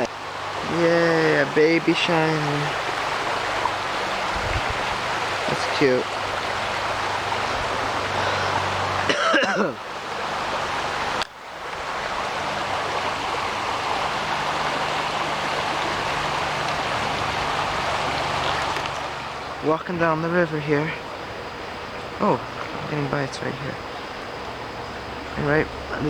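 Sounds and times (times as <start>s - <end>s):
creek water rushing over rocks: 0.0s - 26.0s.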